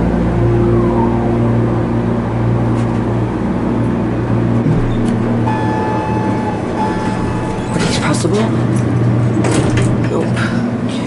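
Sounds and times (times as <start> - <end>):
faint steady whine: 0.0 - 9.4
elevator mechanical hum: 0.0 - 11.0.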